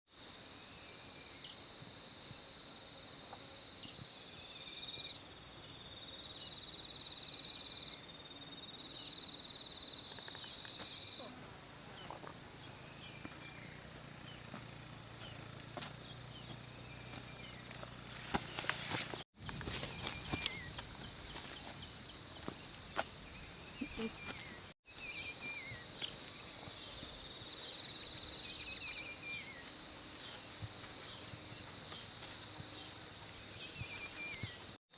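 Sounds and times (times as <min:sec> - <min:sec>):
insects trilling: 0:00.1 - 0:34.8
lower insect trill: 0:00.1 - 0:34.8.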